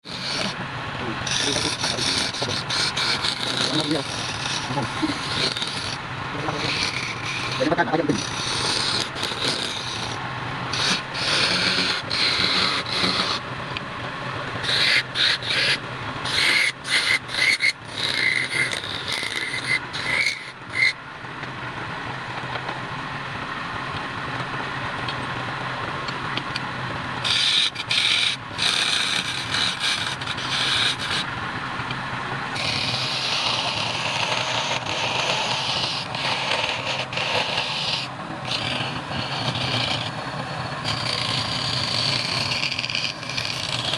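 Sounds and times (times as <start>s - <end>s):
turning tool scraping wood: 0.0s - 13.8s, 14.6s - 21.0s, 27.2s - 31.3s, 32.6s - 43.9s
wood lathe motor hum: 0.0s - 13.8s, 14.5s - 21.0s, 27.2s - 31.3s, 32.5s - 43.9s.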